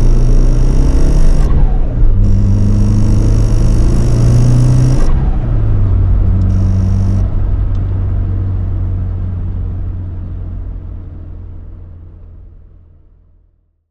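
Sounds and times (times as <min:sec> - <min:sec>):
car engine running at low revs: 0:00.0 - 0:13.8.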